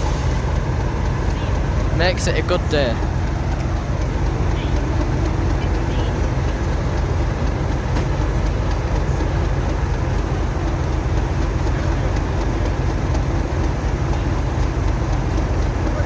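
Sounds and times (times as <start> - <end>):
diesel locomotive idling: 0.0 - 16.0.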